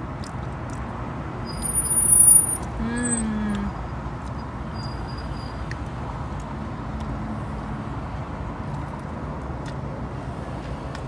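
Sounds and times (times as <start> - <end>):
vehicle rumble inside car: 0.0 - 11.0.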